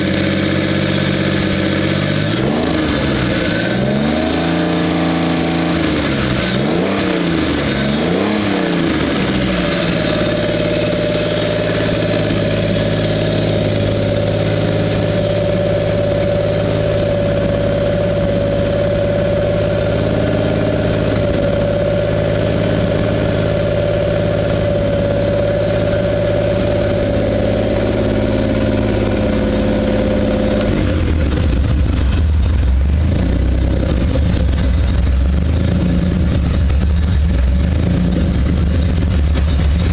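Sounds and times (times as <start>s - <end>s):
race car engine revving and idling: 0.0s - 39.9s.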